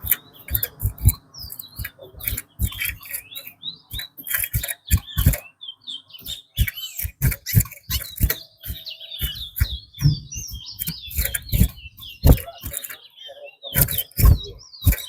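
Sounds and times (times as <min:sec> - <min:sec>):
sharp clicks and taps: 0:00.0 - 0:05.4, 0:06.2 - 0:13.0, 0:13.8 - 0:15.0
finch singing chirping phrases: 0:00.0 - 0:15.0.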